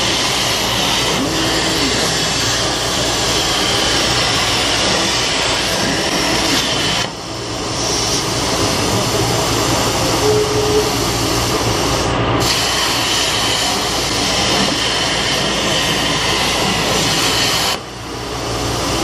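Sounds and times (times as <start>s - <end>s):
plasma cutter hissing: 0.0s - 9.4s, 10.1s - 19.0s.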